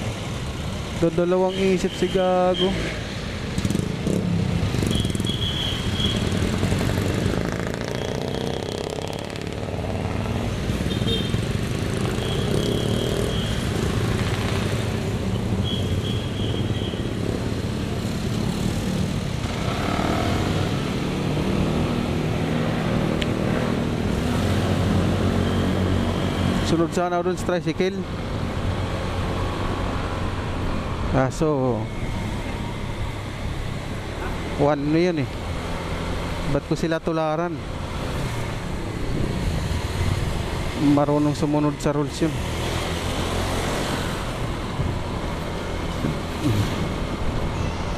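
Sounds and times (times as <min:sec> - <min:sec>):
street traffic: 0:00.0 - 0:47.9.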